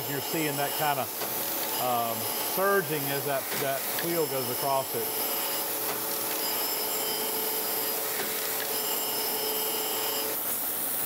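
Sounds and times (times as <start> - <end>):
grinder wheel grinding steel: 0.0 - 11.0
grinder wheel hum: 0.0 - 11.0.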